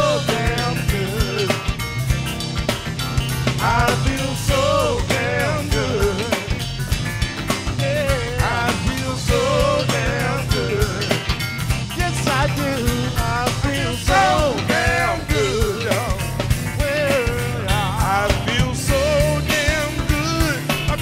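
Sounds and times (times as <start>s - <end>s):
blues-rock band playing: 0.0s - 21.0s.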